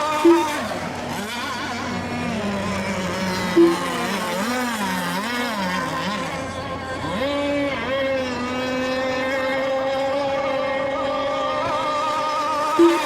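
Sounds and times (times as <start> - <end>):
model boat engines whining: 0.0 - 13.0.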